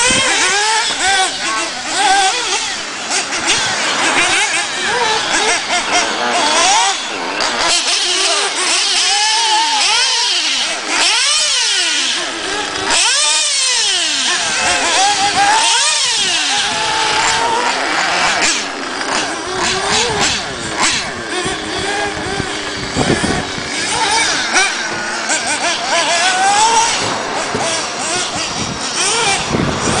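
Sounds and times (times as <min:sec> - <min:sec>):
rc buggy engines whining: 0:00.0 - 0:30.0.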